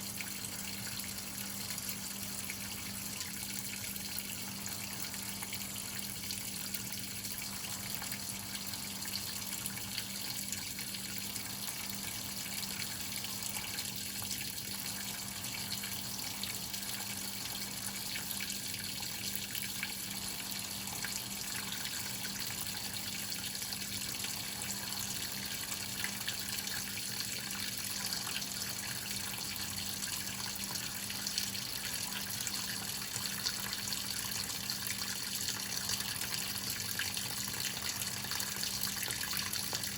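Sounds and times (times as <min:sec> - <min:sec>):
water running into washing machine: 0:00.0 - 0:39.9.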